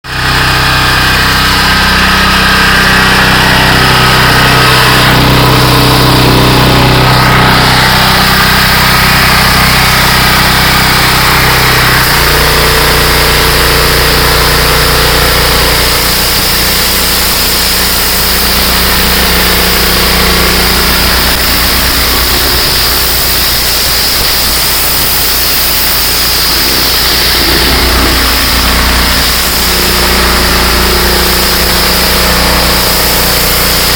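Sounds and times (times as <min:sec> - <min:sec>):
pressure washer engine running: 0:00.0 - 0:33.9.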